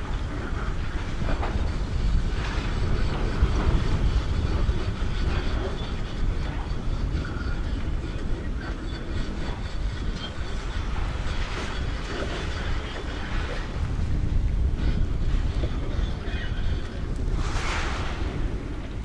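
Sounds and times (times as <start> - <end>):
excavator engine rumble: 0.0 - 19.0.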